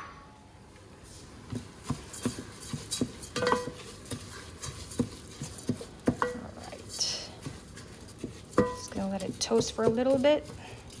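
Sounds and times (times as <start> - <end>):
utensil scraping pot: 1.1 - 11.0.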